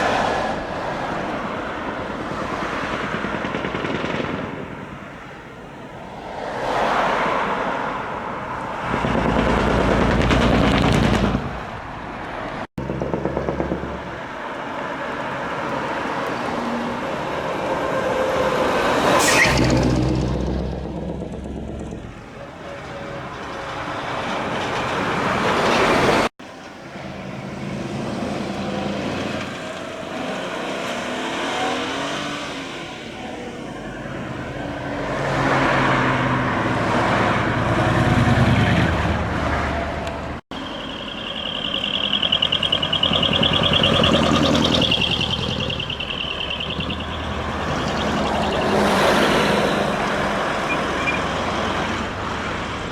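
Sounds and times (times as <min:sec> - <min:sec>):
truck diesel engines revving: 0:00.0 - 0:52.9.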